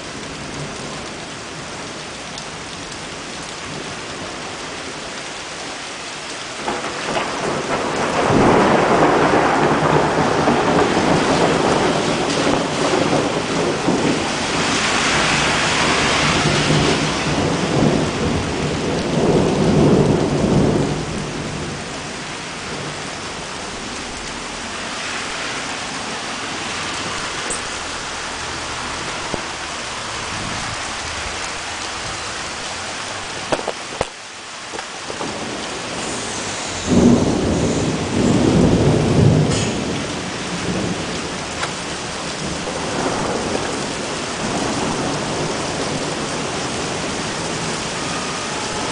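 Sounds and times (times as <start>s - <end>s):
heavy rain: 0.0s - 48.9s
thunder rolling: 6.6s - 48.9s.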